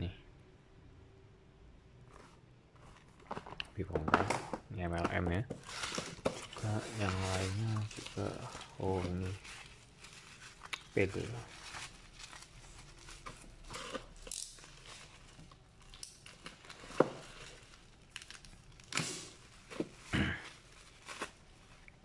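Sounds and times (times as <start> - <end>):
bubble-wrap crinkling: 2.1 - 22.0
tape tearing: 3.2 - 21.8.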